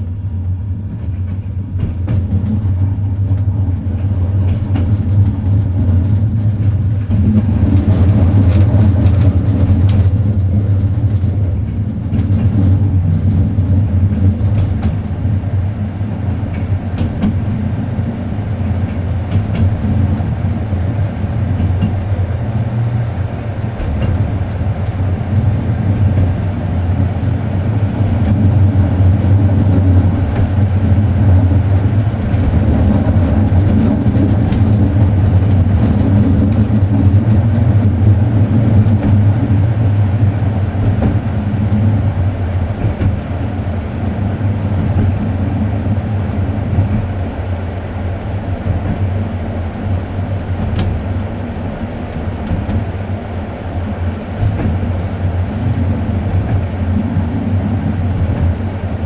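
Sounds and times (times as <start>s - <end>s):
low rumble of train wheels: 0.0s - 59.0s.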